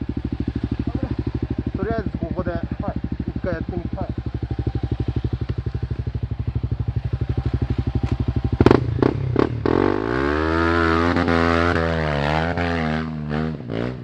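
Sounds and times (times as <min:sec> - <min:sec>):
motorcycle engine idling: 0:00.0 - 0:11.7
motorcycle engine revving: 0:00.0 - 0:14.0.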